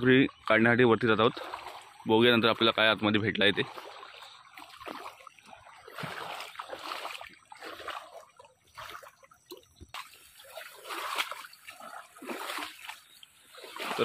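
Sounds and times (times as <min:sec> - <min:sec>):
stream trickling: 0:00.0 - 0:14.0
feet splashing through water: 0:00.3 - 0:14.0.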